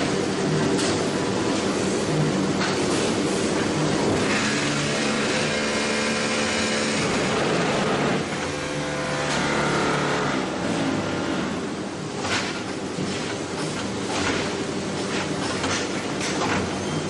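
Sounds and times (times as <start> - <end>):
block-making machine running: 0.0 - 17.0.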